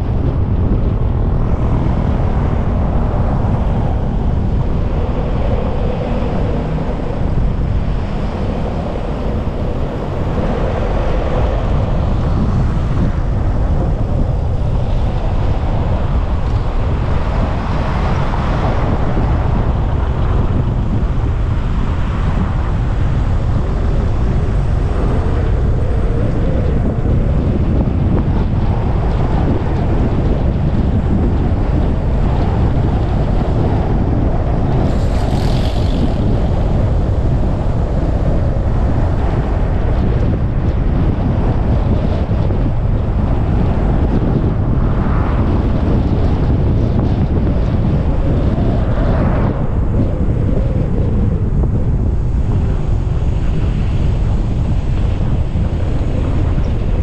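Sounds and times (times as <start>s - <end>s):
car road noise: 0.0s - 57.0s
wind buffeting microphone: 0.0s - 57.0s.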